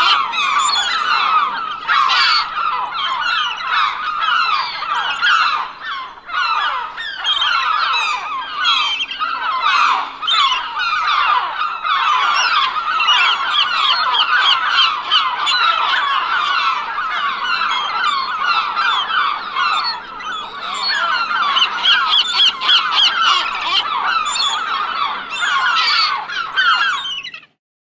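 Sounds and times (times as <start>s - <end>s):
seagulls squawking: 0.0s - 27.5s.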